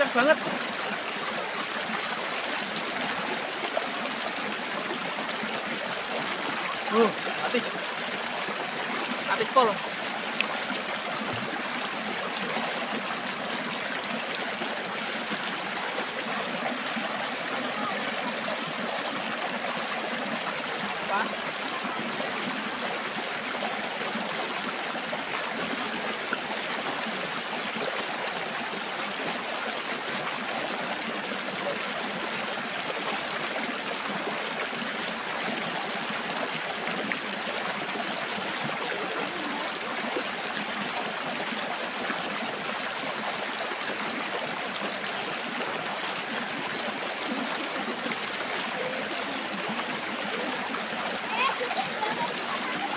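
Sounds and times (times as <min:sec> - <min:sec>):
river water rushing over rocks: 0:00.0 - 0:52.9.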